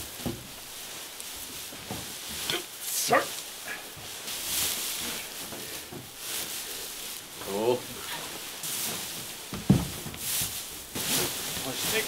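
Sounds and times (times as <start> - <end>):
dry hay rustling: 0.0 - 12.0.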